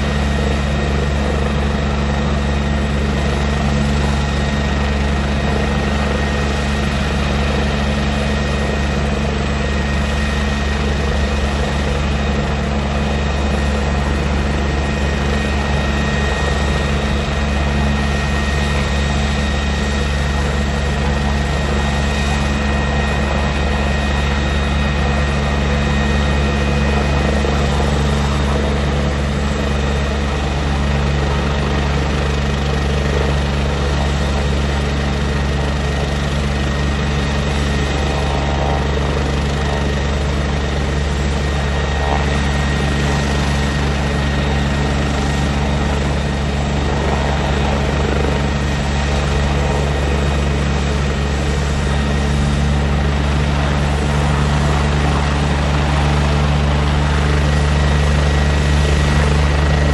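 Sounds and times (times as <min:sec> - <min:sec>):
helicopter rotor noise: 0:00.0 - 0:59.9
helicopter turbine whine: 0:00.0 - 0:59.9.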